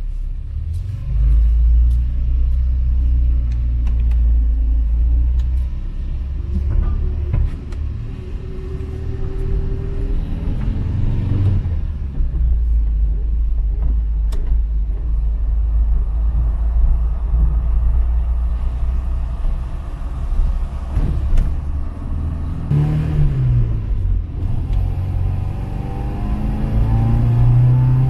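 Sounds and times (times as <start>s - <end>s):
car engine rumbling under load: 0.0s - 28.0s.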